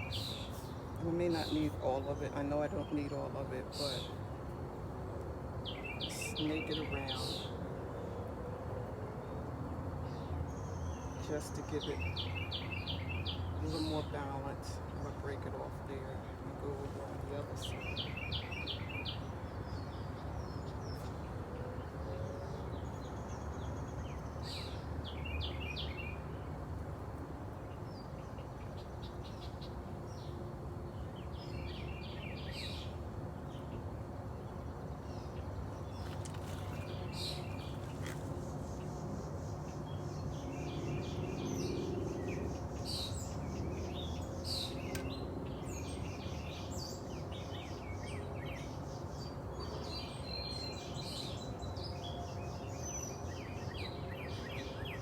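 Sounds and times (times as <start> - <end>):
small birds chirping: 0.0 - 4.9, 5.6 - 8.2, 10.0 - 55.0.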